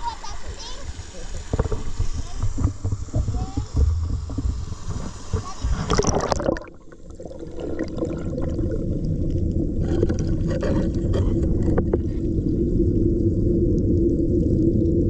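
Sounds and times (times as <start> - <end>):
muffled rushing water: 0.0 - 15.0
low hum: 1.4 - 15.0.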